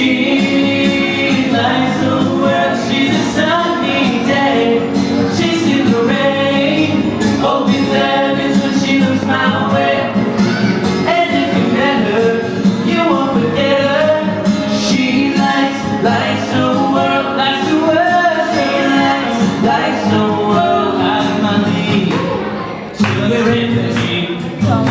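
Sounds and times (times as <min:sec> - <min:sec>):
people singing a song: 0:00.0 - 0:24.9.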